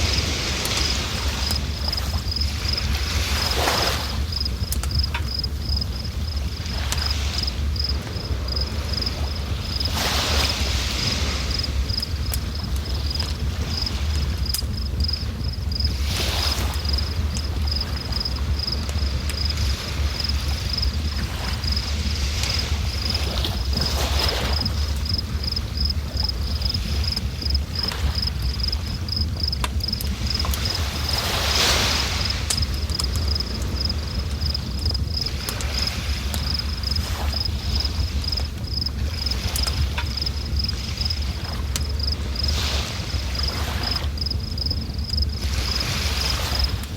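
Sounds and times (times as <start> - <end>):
insect chirping: 0.0 - 46.9.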